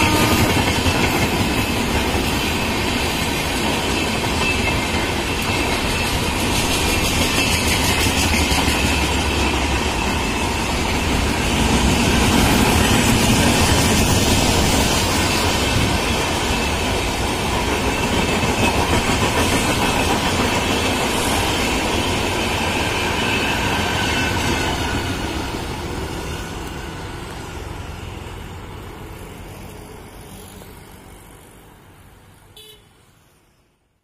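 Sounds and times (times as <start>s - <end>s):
train wheels rumbling on track: 0.0s - 32.8s.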